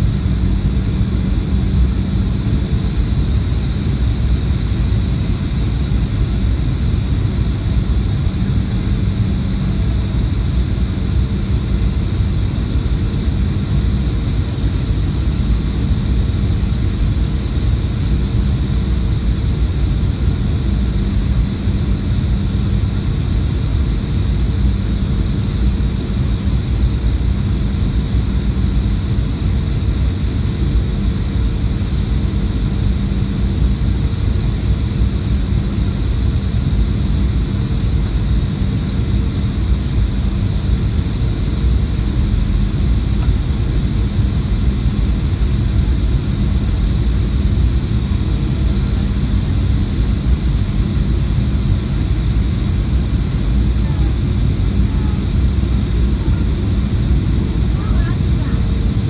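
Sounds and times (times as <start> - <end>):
airplane cabin engine drone: 0.0 - 59.0
faint high engine whine: 0.0 - 59.0.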